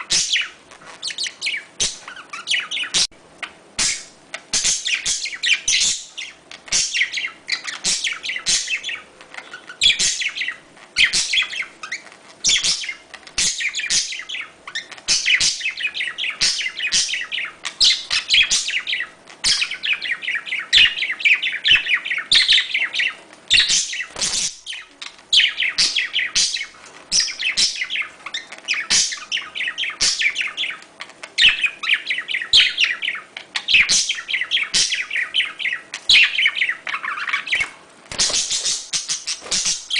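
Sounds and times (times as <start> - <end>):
budgerigars chirping: 0.0 - 39.9
faint steady hum: 0.0 - 39.9.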